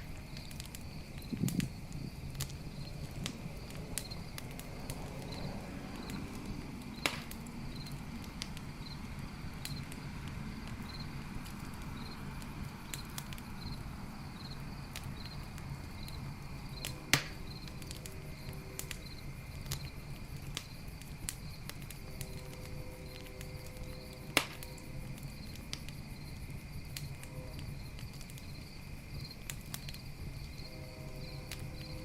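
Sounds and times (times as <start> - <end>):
campfire crackling and popping: 0.0 - 32.0
crickets chirping: 0.0 - 32.0.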